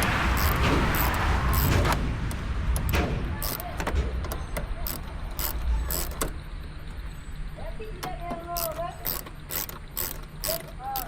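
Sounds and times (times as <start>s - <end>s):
ratchet wrench clicking: 0.0s - 1.9s, 2.8s - 7.0s, 8.0s - 11.0s.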